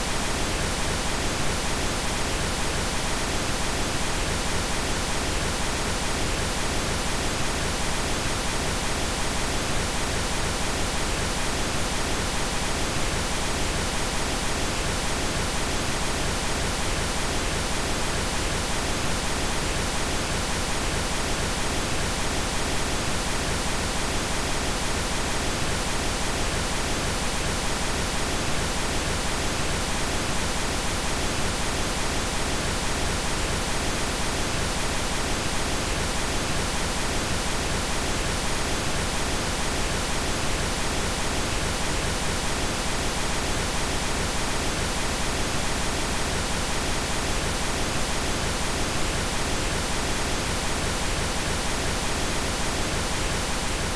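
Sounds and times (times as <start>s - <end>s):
pink noise hiss: 0.0s - 53.9s.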